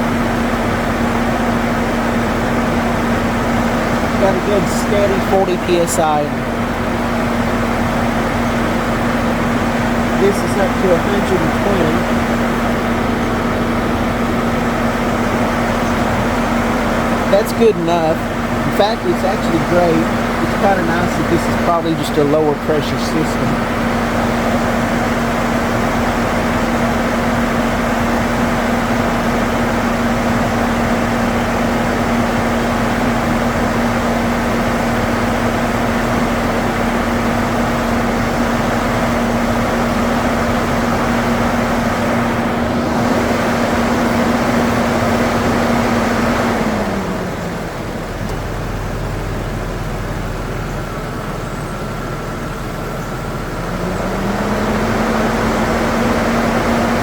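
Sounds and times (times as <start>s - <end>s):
air conditioning hum: 0.0s - 57.0s
car engine idling: 0.0s - 57.0s
engine fan noise: 0.0s - 57.0s.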